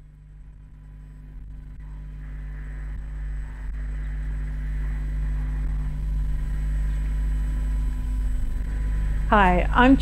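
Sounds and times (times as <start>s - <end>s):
low rumbling drone: 0.0s - 10.0s.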